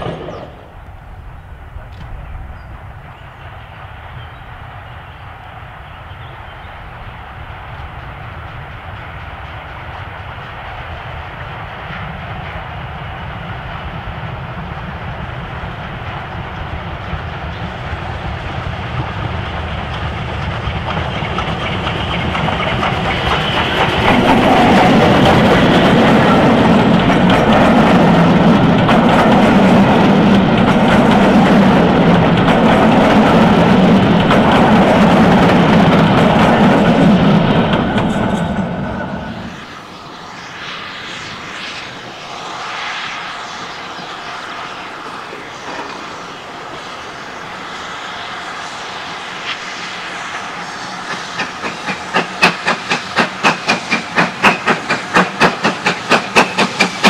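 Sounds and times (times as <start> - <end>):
steam locomotive passing: 0.0 - 57.0
train coaches rumbling past: 0.0 - 57.0.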